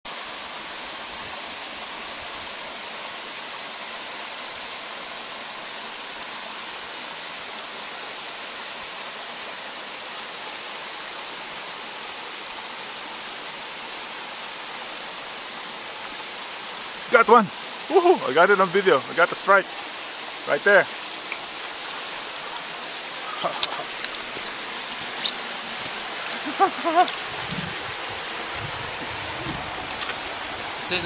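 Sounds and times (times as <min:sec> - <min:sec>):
stream rushing over rocks: 0:00.1 - 0:31.0.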